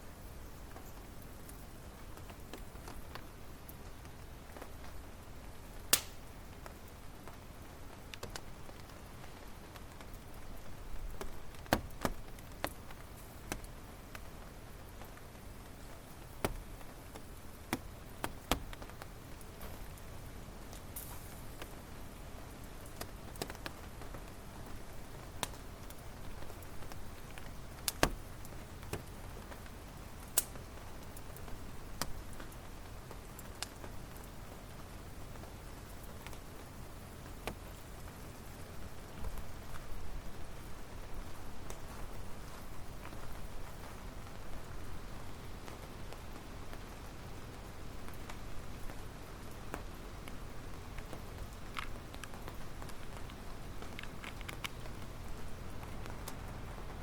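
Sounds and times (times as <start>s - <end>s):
campfire crackling: 0.0s - 57.0s
soft low rush of fire: 0.0s - 57.0s
fire popping: 0.4s - 57.0s.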